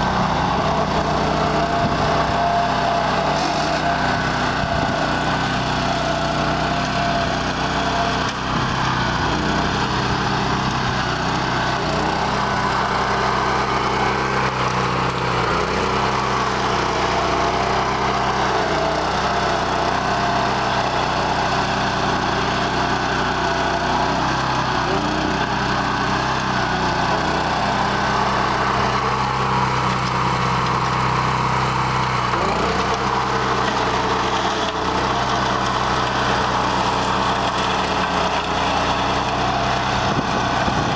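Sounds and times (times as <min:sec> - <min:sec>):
flail mower chopping stalks: 0:00.0 - 0:40.9
tractor engine running under load: 0:00.0 - 0:40.9.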